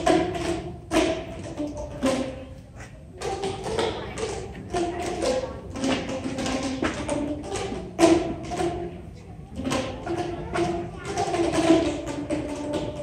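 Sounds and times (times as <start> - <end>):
tuned plastic tubes popping: 0.0 - 13.0.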